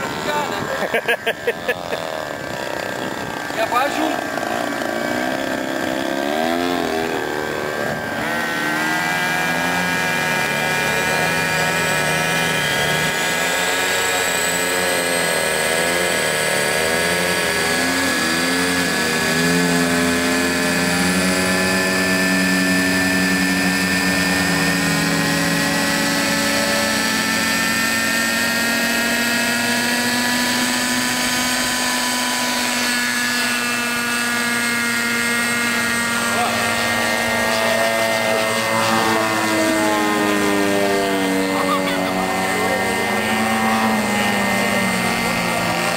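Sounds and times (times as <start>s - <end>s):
model helicopter engine whining: 0.0s - 45.9s.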